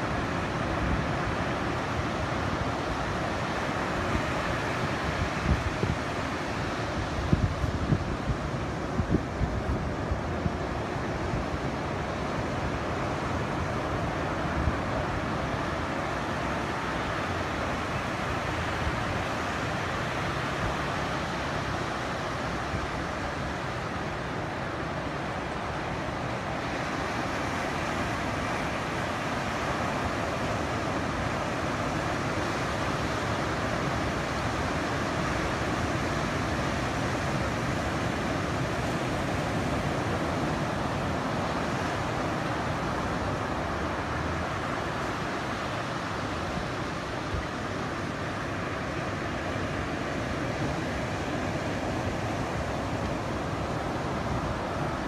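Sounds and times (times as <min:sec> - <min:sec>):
ocean surf breaking: 0:00.0 - 0:55.0
wind rumbling on microphone: 0:00.0 - 0:55.0.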